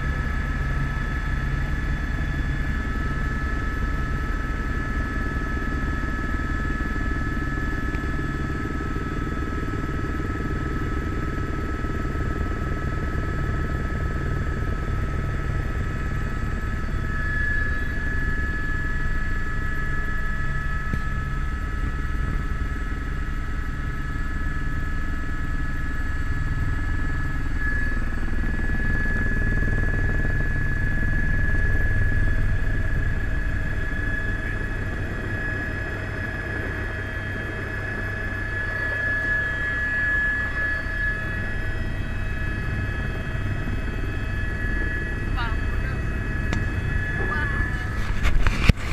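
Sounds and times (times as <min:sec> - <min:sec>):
helicopter rotor beat: 0:00.0 - 0:48.9.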